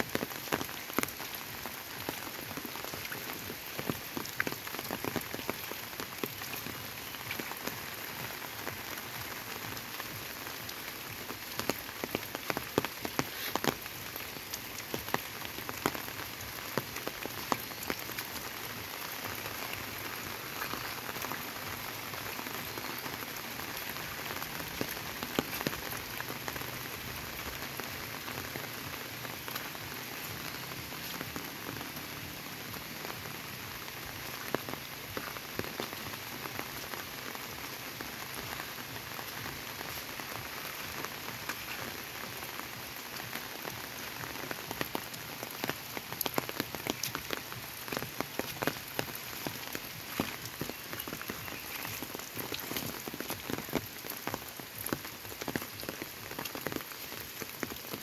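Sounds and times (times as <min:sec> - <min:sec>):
rain falling on foliage: 0:00.0 - 0:58.0.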